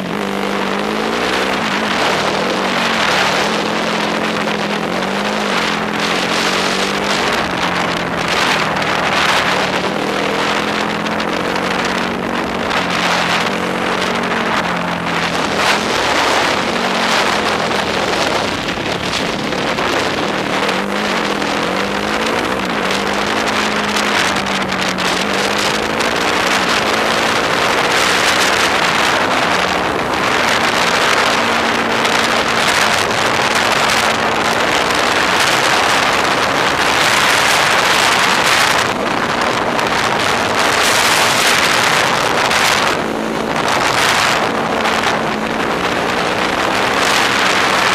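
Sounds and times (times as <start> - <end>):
quad engine revving: 0.0 - 47.9
wind on microphone: 0.0 - 47.9.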